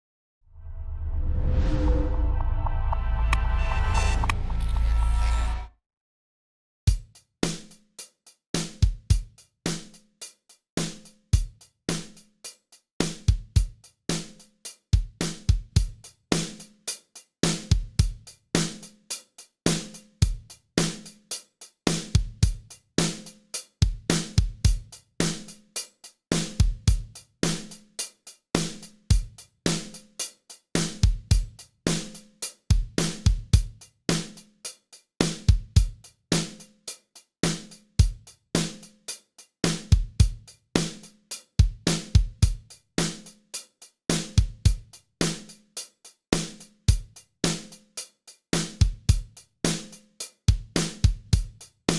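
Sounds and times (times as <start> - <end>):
drum kit groove: 6.9 - 51.9.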